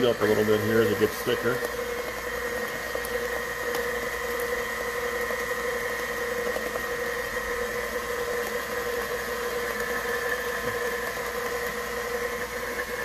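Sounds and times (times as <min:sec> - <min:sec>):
stand mixer motor whine: 0:00.0 - 0:13.0.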